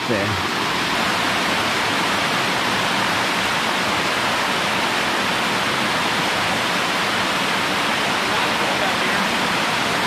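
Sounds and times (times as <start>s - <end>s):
waterfall cascading over rocks: 0.0s - 10.0s.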